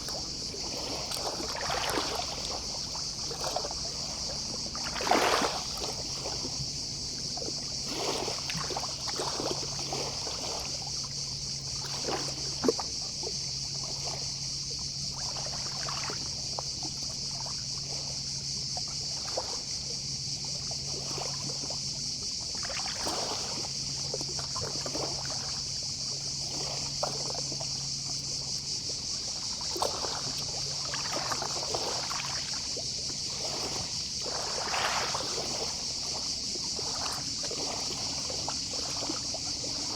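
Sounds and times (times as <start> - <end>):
distant cicadas: 0.0 - 39.9
small waves lapping at shore: 0.0 - 39.9.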